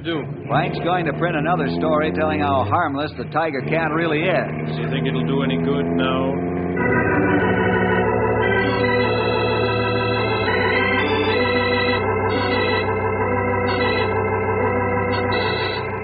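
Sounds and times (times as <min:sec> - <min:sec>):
organ chords: 0:00.0 - 0:16.0.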